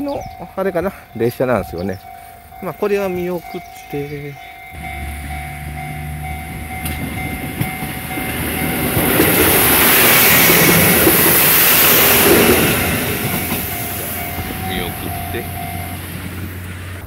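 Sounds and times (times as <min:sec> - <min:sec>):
diesel railcar engine hum: 0:00.0 - 0:17.0.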